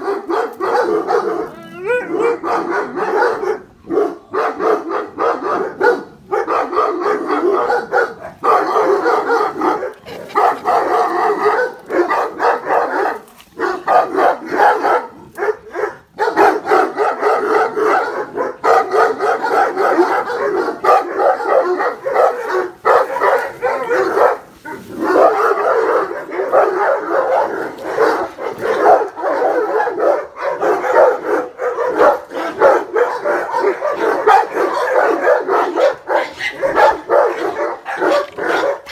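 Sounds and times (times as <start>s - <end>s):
dogs barking: 0.0s - 38.9s.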